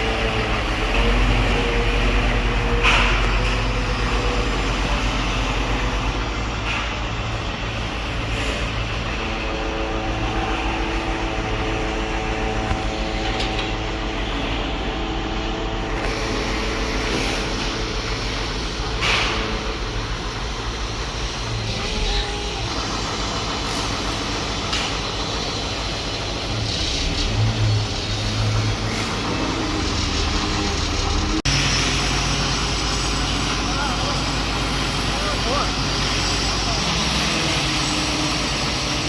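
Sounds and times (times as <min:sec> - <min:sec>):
diesel construction machinery running: 0:00.0 - 0:39.0.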